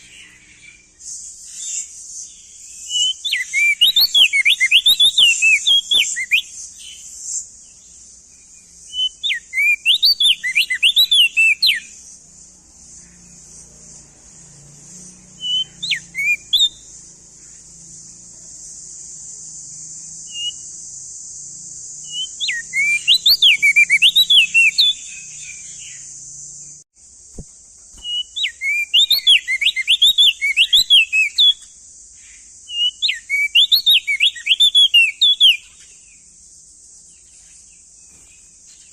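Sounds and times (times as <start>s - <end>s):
bird singing whistled notes: 0.0s - 12.2s, 12.8s - 26.8s, 27.4s - 36.4s
steady high hiss: 0.0s - 38.9s.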